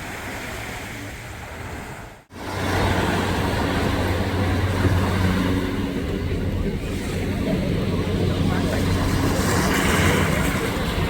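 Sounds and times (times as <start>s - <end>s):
ocean surf washing: 0.0s - 11.0s
wind on microphone: 0.0s - 11.0s.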